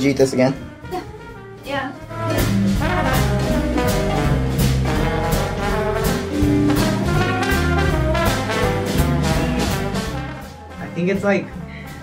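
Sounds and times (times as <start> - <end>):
upbeat jazz music with brass: 0.0 - 12.0.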